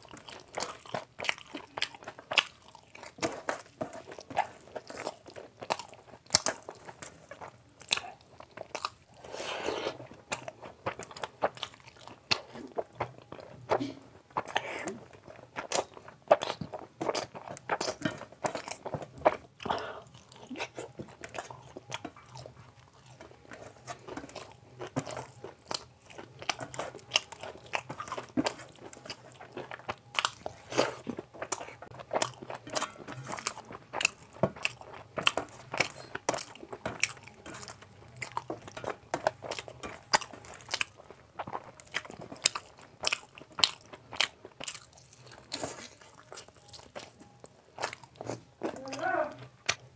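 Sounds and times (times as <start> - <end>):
chewing and wet mouth smacks: 0.0 - 9.3, 9.9 - 49.0.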